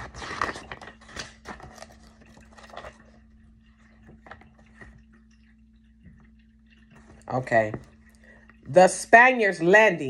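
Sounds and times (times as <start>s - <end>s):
scratching and scraping noises: 0.0s - 8.6s
faint steady hum: 0.0s - 10.0s.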